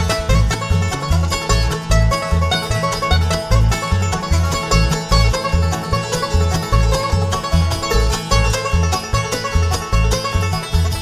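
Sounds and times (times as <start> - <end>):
bluegrass band playing: 0.0 - 11.0.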